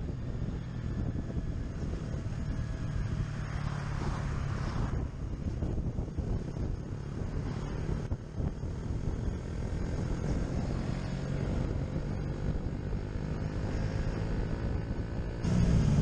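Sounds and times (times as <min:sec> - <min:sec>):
motorcycle engine cruising: 0:00.0 - 0:16.0
wind rushing over microphone: 0:00.0 - 0:16.0.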